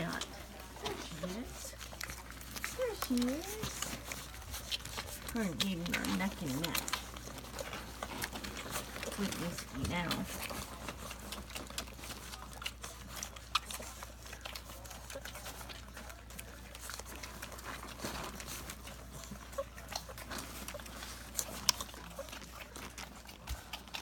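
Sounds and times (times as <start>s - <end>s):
puppies suckling wet smacking: 0.0s - 24.0s.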